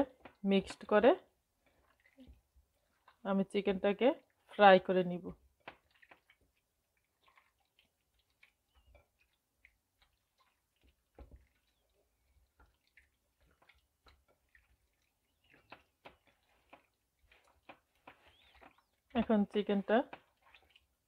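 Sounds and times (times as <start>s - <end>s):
hand mixing raw chicken: 0.0s - 21.0s.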